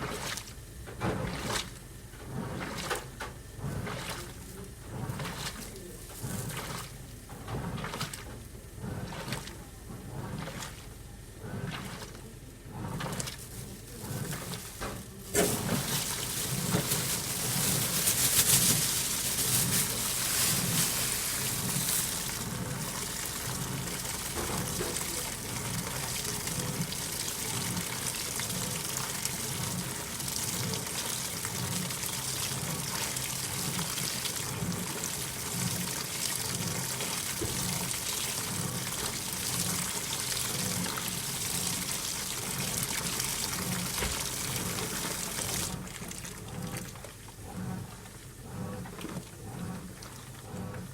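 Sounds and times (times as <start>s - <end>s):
washing machine filling with water: 0.0s - 50.9s.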